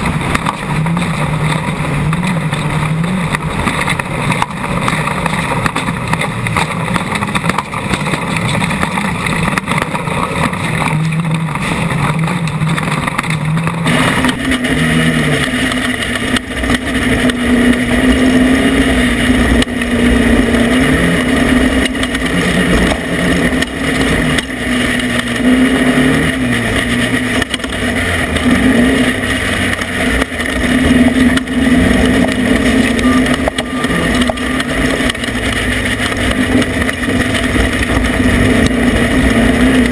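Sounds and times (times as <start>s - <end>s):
constant noisy rush: 0.0s - 39.9s
race vehicle engine running hard: 0.0s - 39.9s.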